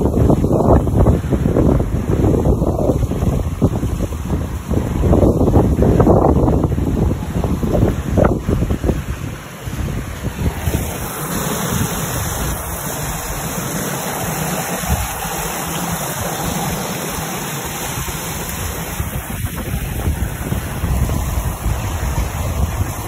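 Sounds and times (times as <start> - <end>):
water rushing along boat hull: 0.0 - 23.0
wind noise on microphone: 0.0 - 23.0.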